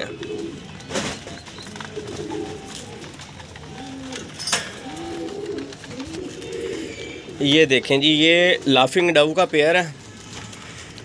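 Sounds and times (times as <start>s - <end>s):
doves cooing: 0.0s - 11.0s.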